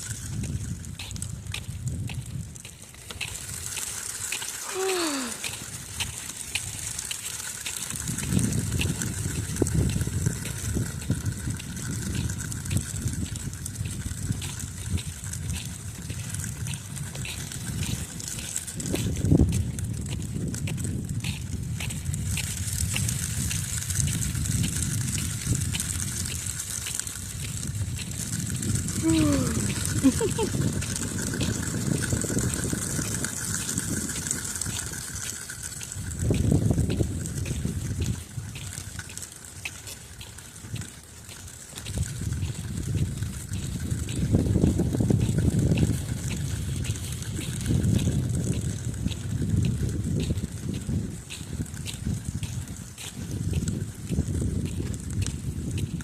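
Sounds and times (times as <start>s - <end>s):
footsteps on ice clicking: 0.0s - 56.0s
wind buffeting microphone: 0.0s - 56.0s.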